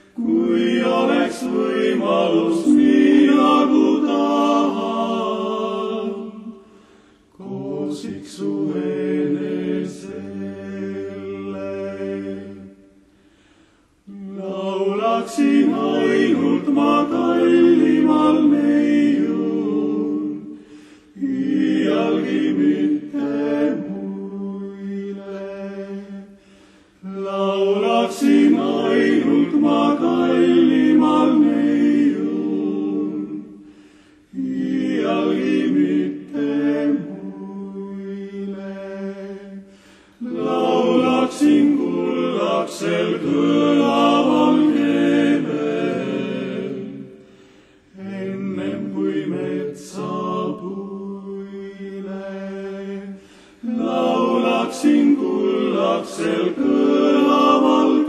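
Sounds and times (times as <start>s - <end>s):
men singing in close harmony: 0.0s - 6.6s, 7.4s - 12.8s, 14.1s - 20.6s, 21.2s - 26.4s, 27.0s - 33.6s, 34.3s - 47.2s, 47.9s - 58.0s.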